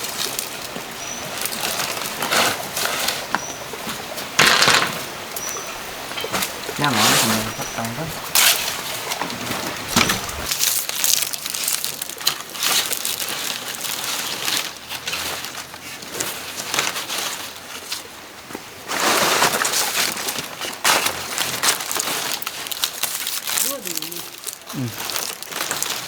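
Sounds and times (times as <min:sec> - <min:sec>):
dry material rustling and crackling: 0:00.0 - 0:18.0, 0:18.9 - 0:26.0.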